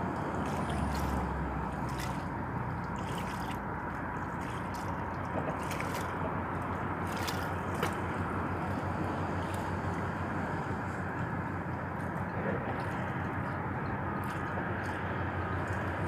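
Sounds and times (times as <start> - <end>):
small waves lapping against rocks: 0.0 - 16.0.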